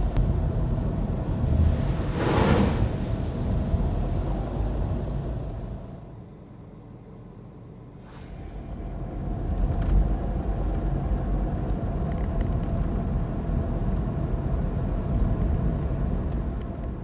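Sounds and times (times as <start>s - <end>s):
car driving rumble: 0.0s - 6.2s, 8.4s - 17.0s.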